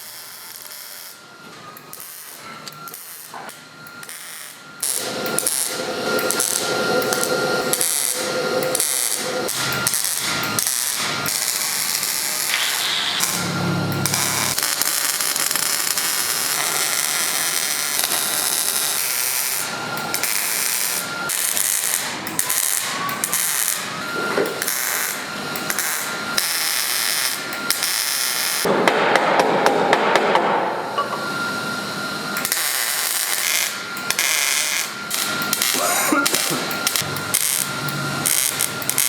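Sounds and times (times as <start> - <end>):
power tool working sheet metal: 1.9 - 39.0.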